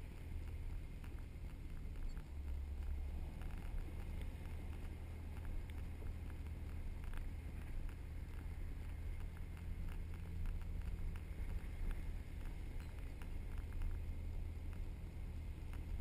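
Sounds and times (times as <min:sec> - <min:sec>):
light ticks and rattles: 0:00.0 - 0:16.0
vehicle engine and tyre rumble: 0:00.0 - 0:16.0.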